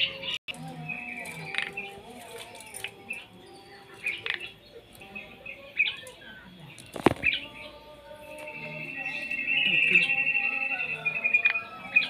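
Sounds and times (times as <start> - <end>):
starling calls: 0.0 - 12.0
steady high-pitched bird call: 0.0 - 12.0.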